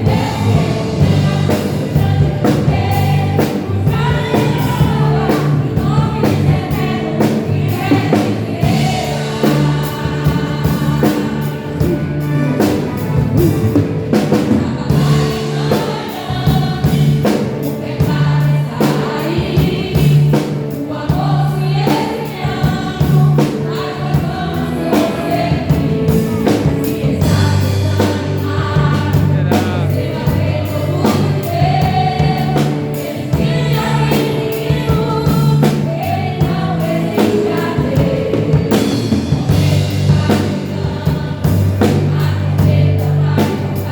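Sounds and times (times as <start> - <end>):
instrumental accompaniment: 0.0 - 43.9
women's choir singing a hymn: 0.0 - 43.9.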